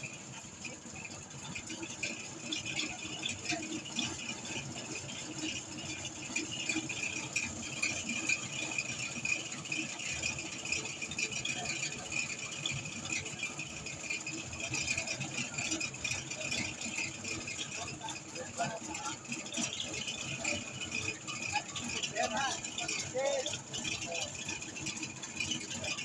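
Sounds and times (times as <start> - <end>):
motorised grass chopper running: 0.0 - 26.0.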